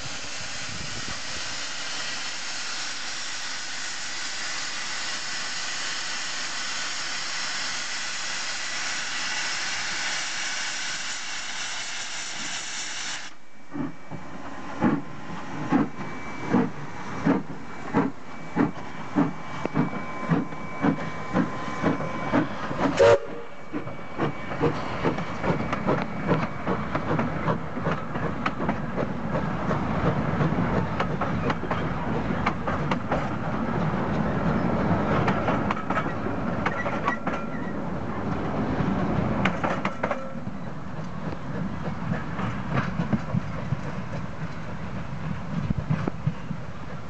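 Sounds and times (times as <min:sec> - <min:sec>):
steam locomotive chuffing: 0:00.0 - 0:47.0
train wheels clattering over rail joints: 0:05.8 - 0:23.0, 0:23.7 - 0:47.0.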